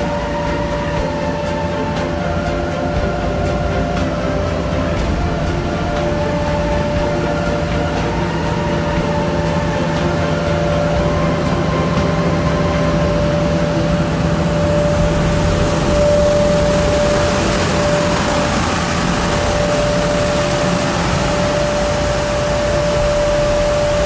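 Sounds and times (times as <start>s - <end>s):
street sweeper truck humming: 0.0s - 24.0s.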